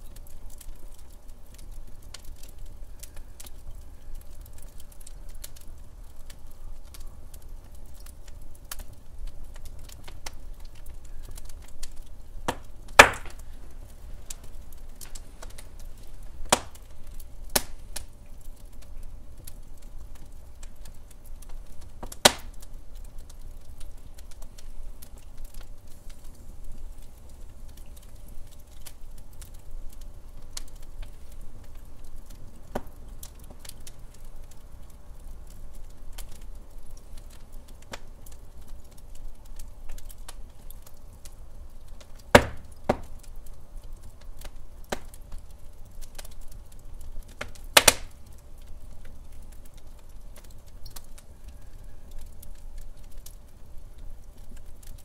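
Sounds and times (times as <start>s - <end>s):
loud fire pops: 0.0s - 51.3s
wood fire crackling: 0.0s - 55.0s.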